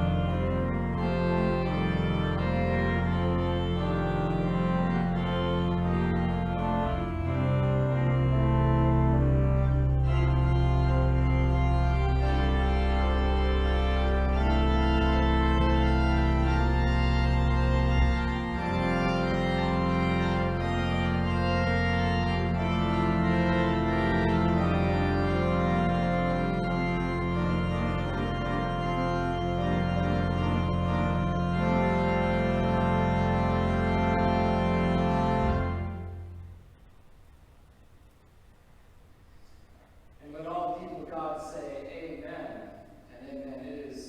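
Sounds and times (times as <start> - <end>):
organ playing slow chords: 0.0 - 37.1.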